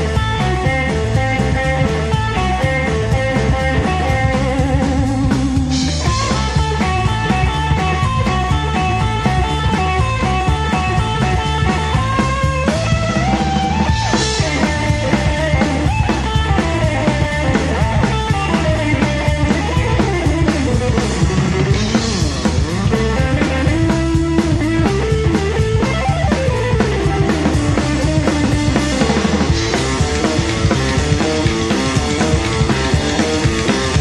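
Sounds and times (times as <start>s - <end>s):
electric guitar lead: 0.0s - 34.0s
rock band playing live: 0.0s - 34.0s.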